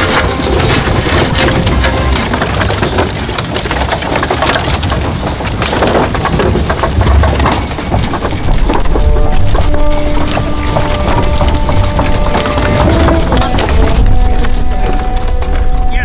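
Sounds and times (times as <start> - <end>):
horses hooves clip-clopping: 0.0 - 16.0.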